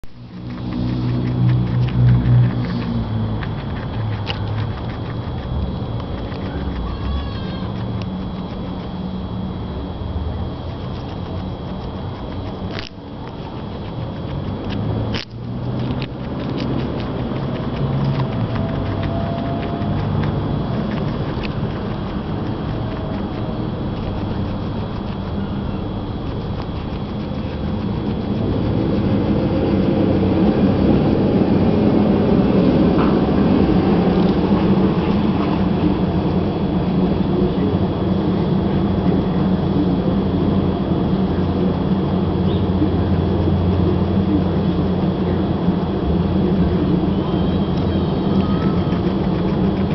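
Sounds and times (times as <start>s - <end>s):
guinea pig chewing carrot: 0.0s - 49.9s
low background rumble: 0.0s - 49.9s.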